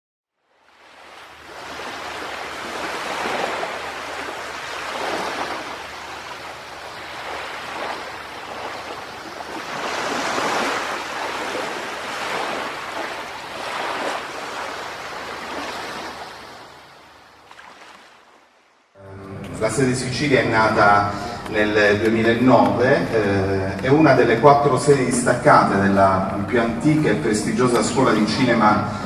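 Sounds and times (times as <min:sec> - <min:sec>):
sea waves washing over rocks: 0:00.6 - 0:18.8, 0:19.5 - 0:29.0.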